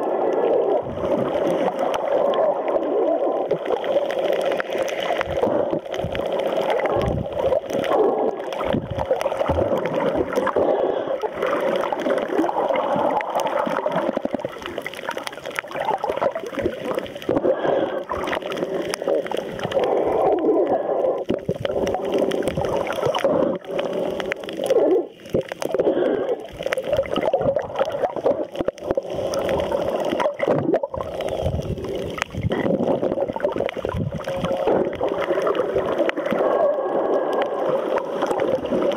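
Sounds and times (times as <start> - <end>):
muffled underwater rushing water: 0.0 - 38.9.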